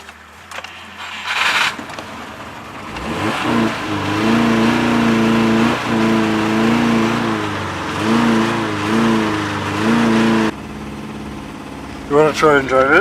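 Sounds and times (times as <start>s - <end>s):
car engine starting and revving: 0.0s - 13.0s.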